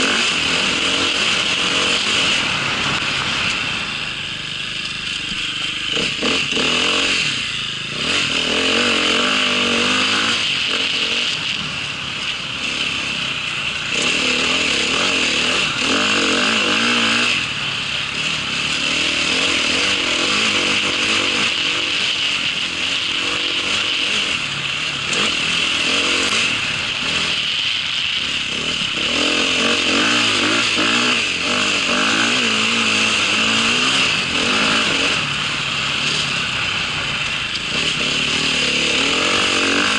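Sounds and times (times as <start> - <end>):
small vehicle engine revving: 0.0 - 39.9.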